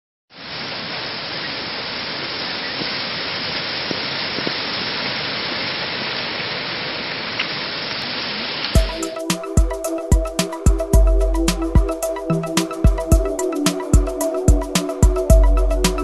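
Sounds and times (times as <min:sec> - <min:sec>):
waterfall rushing: 0:00.3 - 0:16.0.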